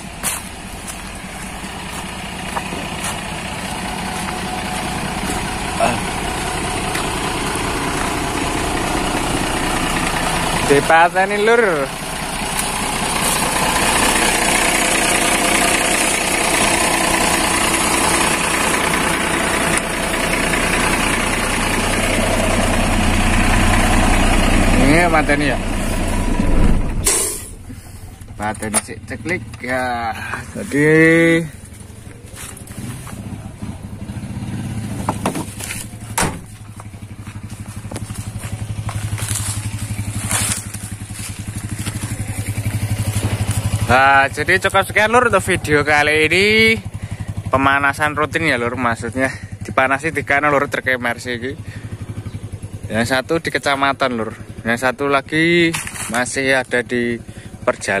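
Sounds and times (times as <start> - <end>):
diesel truck engine idling: 0.0 - 58.0.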